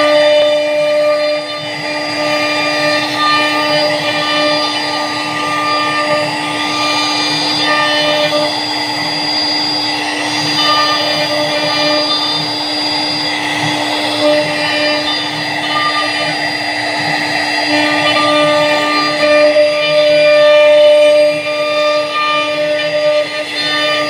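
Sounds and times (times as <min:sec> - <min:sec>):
router spindle whine: 0:00.0 - 0:24.0.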